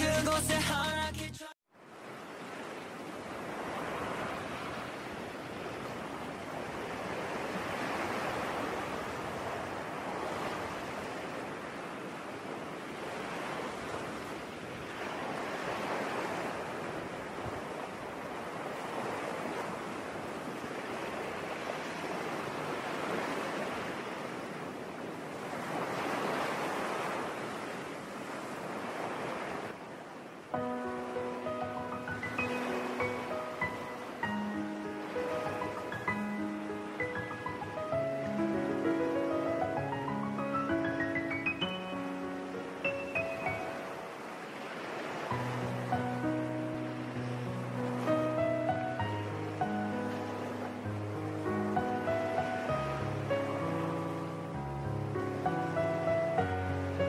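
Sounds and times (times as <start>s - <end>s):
ocean waves breaking: 1.8s - 57.0s.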